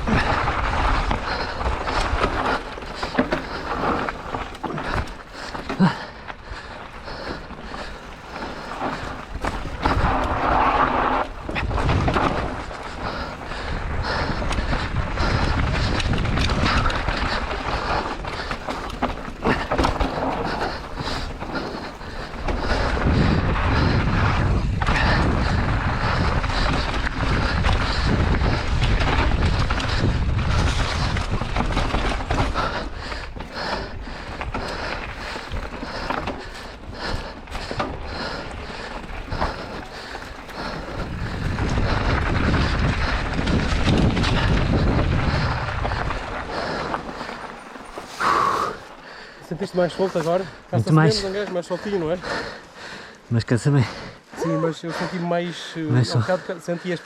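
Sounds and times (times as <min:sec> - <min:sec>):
bike knocks and rattles: 0:00.0 - 0:06.1, 0:07.1 - 0:47.6
wind buffeting microphone: 0:00.0 - 0:53.1
bike tyre noise: 0:00.0 - 0:57.0.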